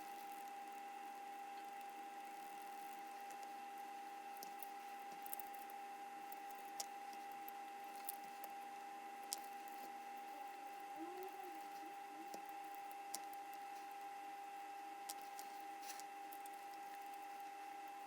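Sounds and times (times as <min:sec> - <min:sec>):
high-pitched electrical hum: 0:00.0 - 0:18.0.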